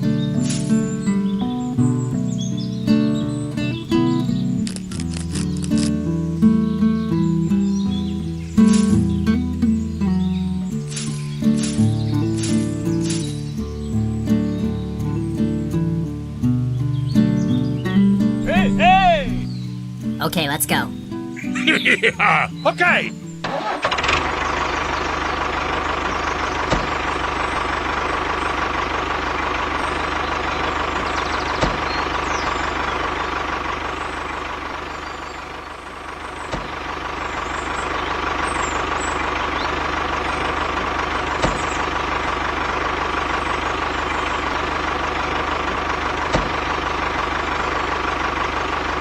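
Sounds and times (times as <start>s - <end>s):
small engine idling: 0.0s - 16.4s, 22.6s - 49.0s.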